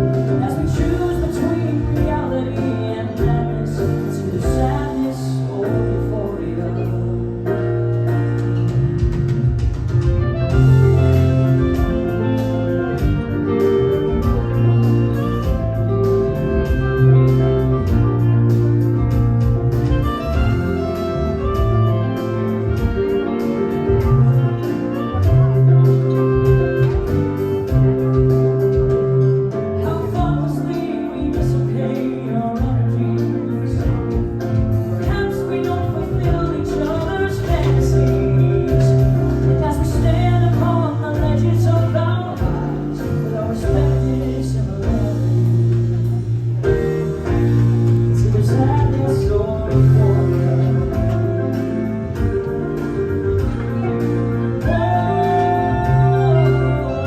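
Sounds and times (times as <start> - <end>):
live band music: 0.0 - 57.0
wavering lead melody: 0.0 - 57.0.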